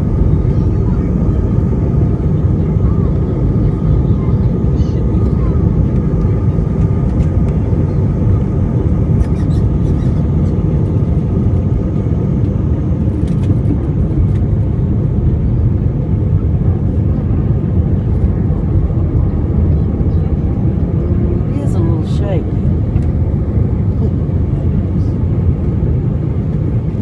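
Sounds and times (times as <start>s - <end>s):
jet engine rumble in cabin: 0.0s - 27.0s.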